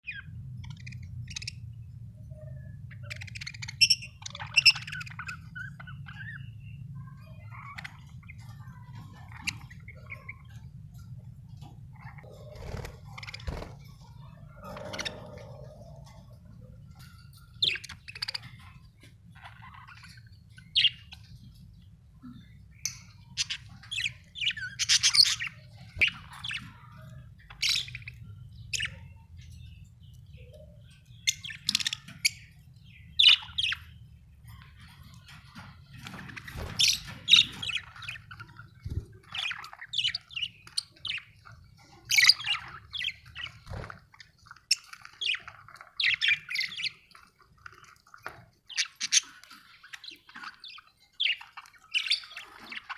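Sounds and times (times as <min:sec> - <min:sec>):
budgerigars chirping: 0:00.0 - 0:52.9.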